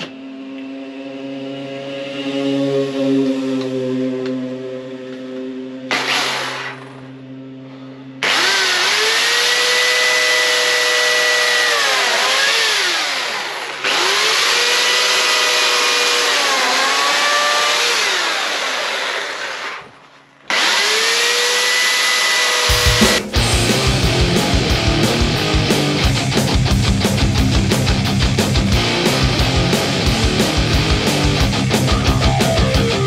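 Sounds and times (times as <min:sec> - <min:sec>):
electric chainsaw cutting wood: 0:00.0 - 0:04.4, 0:05.1 - 0:33.0.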